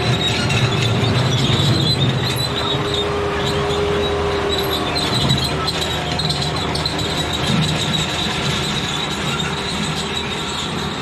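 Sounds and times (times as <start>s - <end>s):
diesel engine running: 0.0s - 11.0s
high squeal: 0.0s - 11.0s
rattle of steel tracks: 0.0s - 11.0s.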